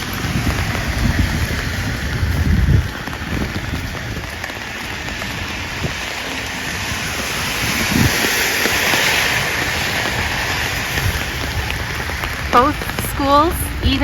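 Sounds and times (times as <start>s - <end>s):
car tyres hissing on wet road: 0.0s - 14.0s
steady rain: 0.0s - 14.0s.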